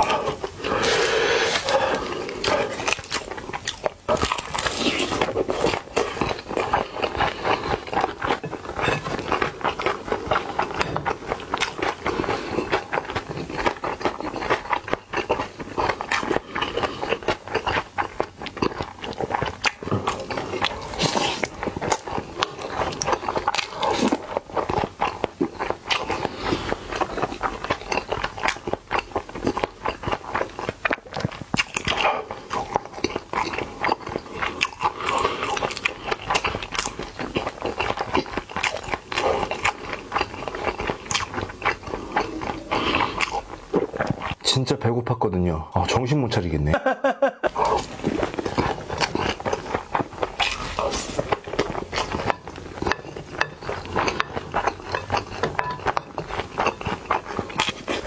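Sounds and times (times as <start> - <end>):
chewing and lip-smacking: 0.0 - 44.4, 47.5 - 58.0.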